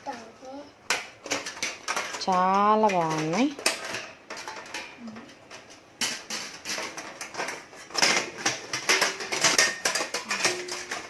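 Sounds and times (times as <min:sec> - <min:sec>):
metal cake moulds clattering: 0:00.9 - 0:11.0.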